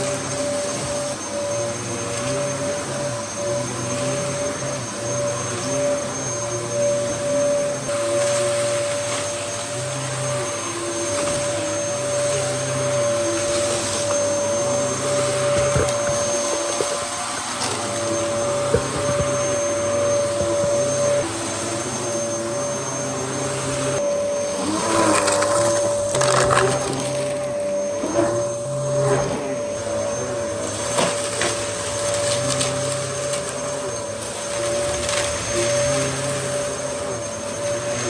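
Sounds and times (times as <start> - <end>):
vacuum cleaner running: 0.0 - 38.0.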